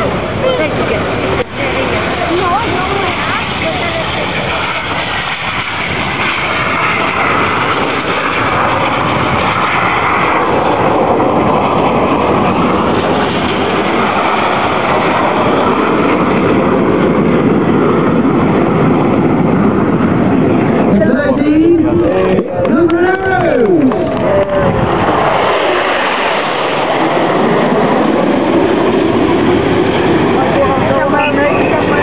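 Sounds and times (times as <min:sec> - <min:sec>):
jets flying past: 0:00.0 - 0:32.0.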